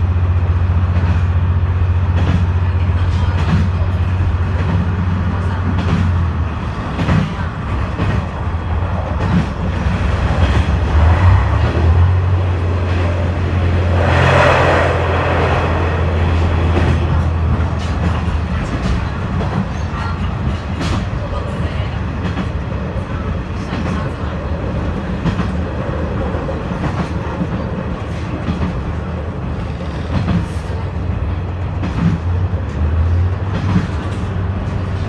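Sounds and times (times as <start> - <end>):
train engine drone: 0.0 - 35.0
tunnel rush: 0.0 - 35.0
wheel and rail noise: 0.0 - 35.0.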